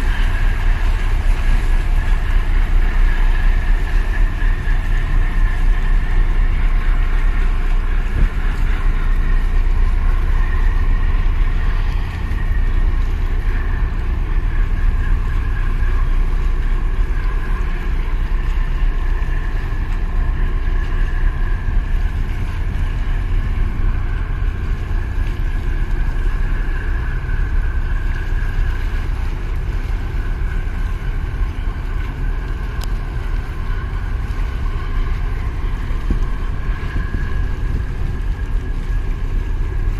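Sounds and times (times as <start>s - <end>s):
droning engine whine: 0.0s - 39.9s
ship engines rumbling: 0.0s - 39.9s.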